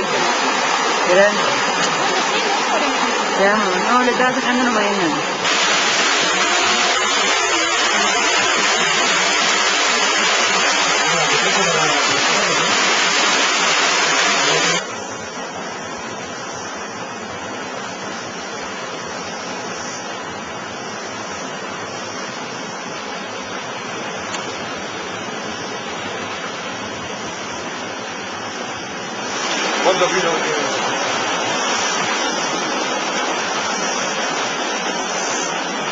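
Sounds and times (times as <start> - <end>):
rushing water: 0.0 - 35.9.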